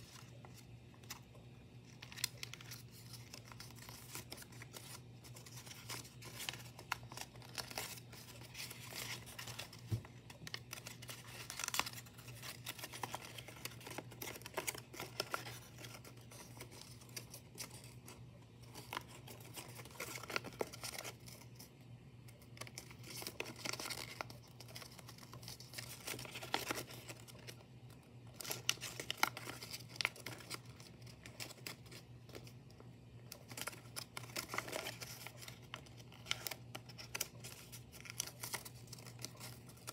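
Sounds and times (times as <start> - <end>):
faint low hum: 0.0 - 39.9
paper rustling and crinkling: 0.0 - 39.9.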